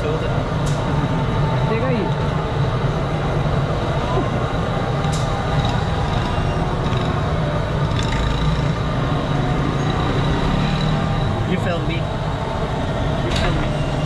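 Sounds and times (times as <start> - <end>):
busy street rumble: 0.0 - 14.0.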